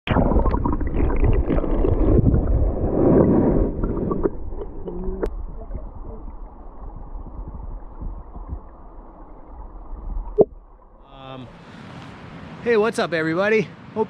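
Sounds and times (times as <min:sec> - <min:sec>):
river water gurgling underwater: 0:00.1 - 0:12.6.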